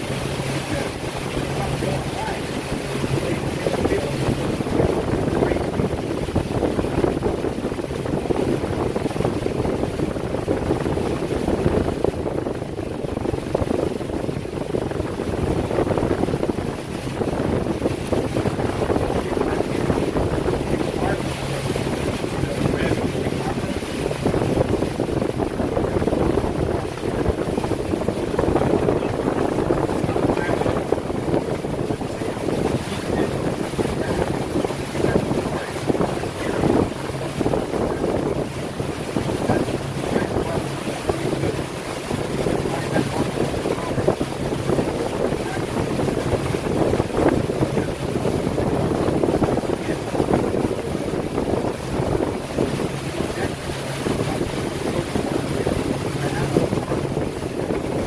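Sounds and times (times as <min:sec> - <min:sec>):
boat motor humming: 0:00.0 - 0:58.0
wind buffeting microphone: 0:00.0 - 0:58.0.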